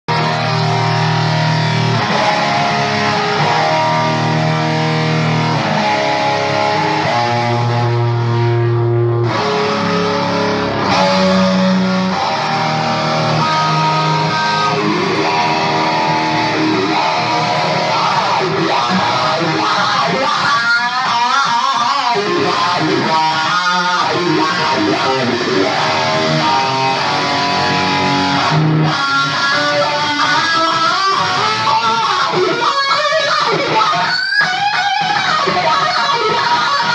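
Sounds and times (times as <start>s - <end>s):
electric guitar with wah pedal: 0.1s - 36.9s.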